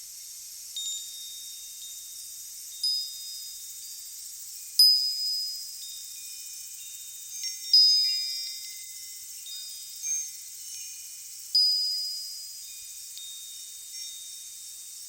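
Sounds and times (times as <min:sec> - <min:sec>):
faint steady hiss: 0:00.0 - 0:15.0
wind chimes ringing: 0:00.8 - 0:15.0.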